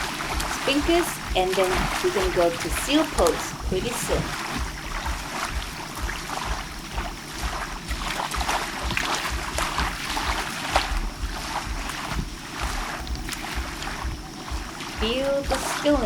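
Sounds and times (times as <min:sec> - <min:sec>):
water lapping and splashing: 0:00.0 - 0:16.0.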